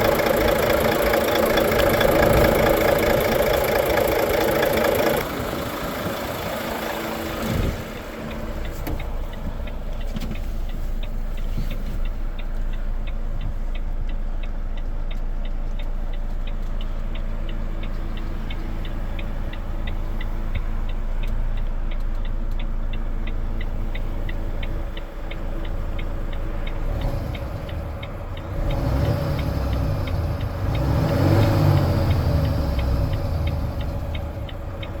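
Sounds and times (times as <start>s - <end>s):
fast light ticks: 0.0s - 5.3s, 8.0s - 35.0s
diesel engine idling: 0.0s - 35.0s.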